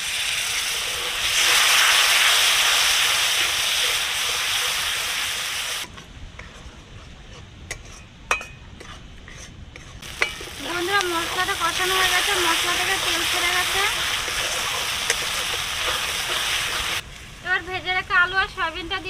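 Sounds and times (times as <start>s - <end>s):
spice paste sizzling in hot oil: 0.0s - 6.6s, 9.3s - 18.9s.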